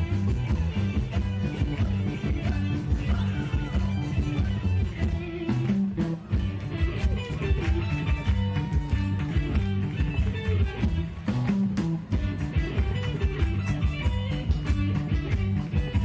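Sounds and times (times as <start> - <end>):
electric guitar line: 0.0 - 16.0
live rock band playing: 0.0 - 16.0.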